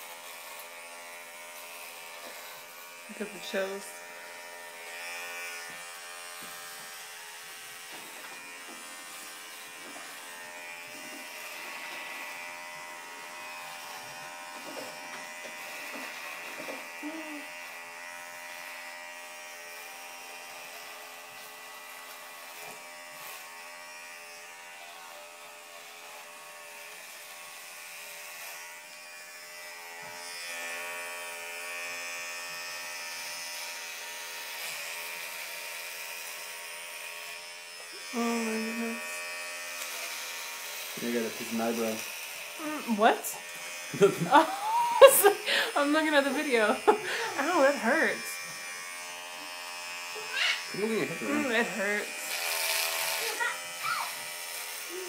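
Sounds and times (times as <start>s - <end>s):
electric hair clippers buzzing: 0.0s - 55.0s.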